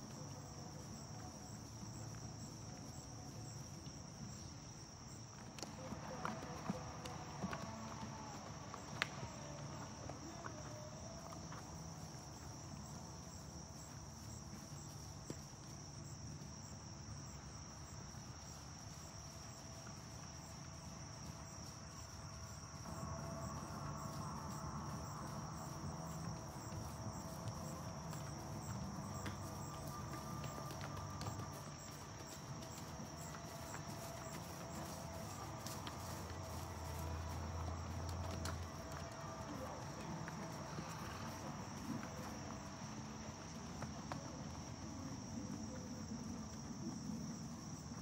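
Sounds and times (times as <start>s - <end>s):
crickets trilling: 0.0s - 48.0s
faint low outdoor rumble: 0.0s - 48.0s.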